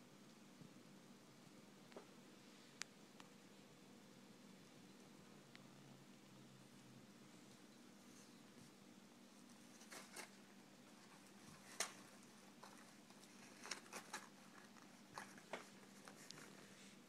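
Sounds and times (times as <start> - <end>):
rabbits nibbling: 0.0 - 17.0.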